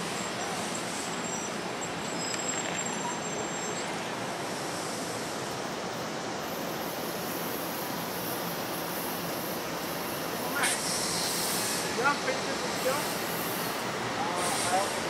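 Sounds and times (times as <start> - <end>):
train coaches rolling on rails: 0.0 - 15.0.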